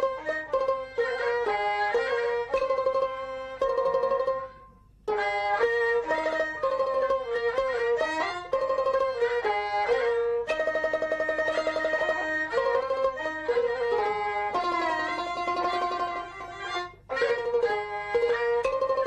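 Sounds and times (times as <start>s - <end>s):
high-pitched fiddle melody: 0.0s - 19.0s
plucked-string accompaniment: 0.0s - 19.0s.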